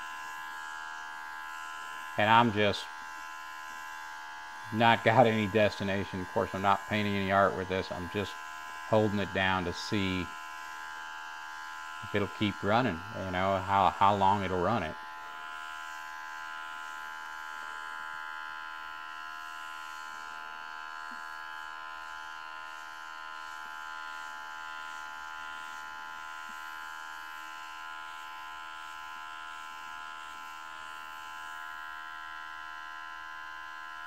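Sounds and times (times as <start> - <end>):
airbrush compressor buzzing: 0.0 - 34.0.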